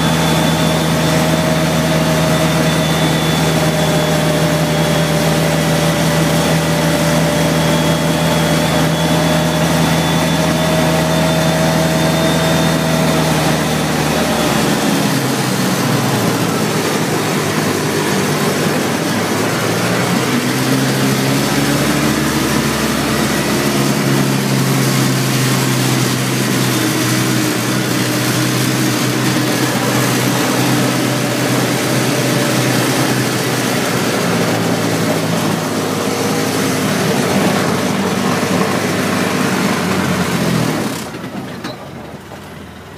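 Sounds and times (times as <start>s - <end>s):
car engine: 0.0s - 42.9s
road noise: 0.0s - 42.9s.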